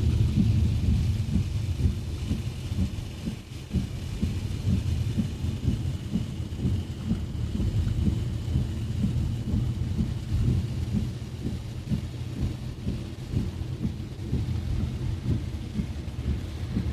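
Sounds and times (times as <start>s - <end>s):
car interior low rumble: 0.0s - 16.9s
rain drops hitting car body: 0.0s - 16.9s.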